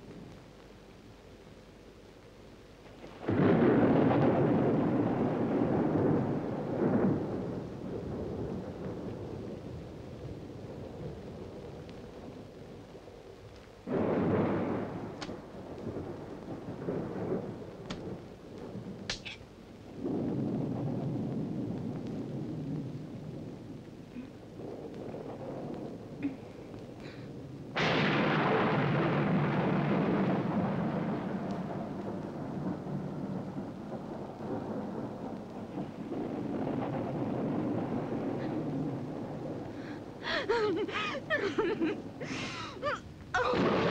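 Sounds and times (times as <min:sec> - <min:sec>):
rain: 0:00.0 - 0:43.9
thunder rumbling: 0:02.8 - 0:43.9.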